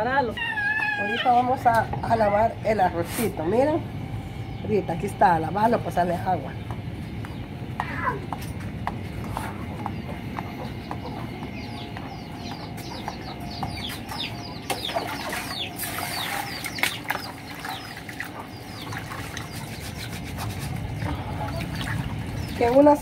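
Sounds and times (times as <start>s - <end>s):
birds chirping: 0.1s - 23.0s.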